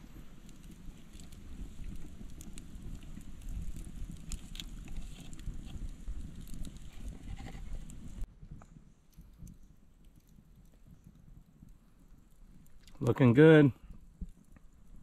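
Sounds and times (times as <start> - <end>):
charcoal fire crackling and popping: 0.0 - 15.0.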